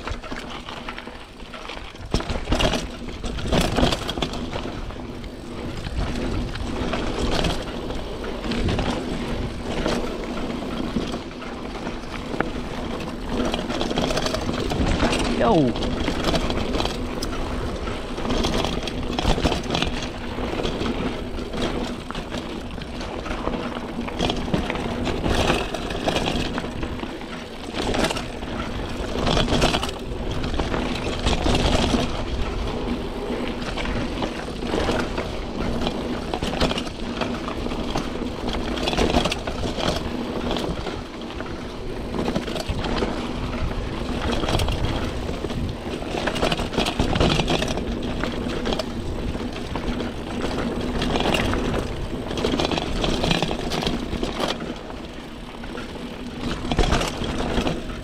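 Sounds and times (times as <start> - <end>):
bike knocking and rattling: 0.0 - 58.0.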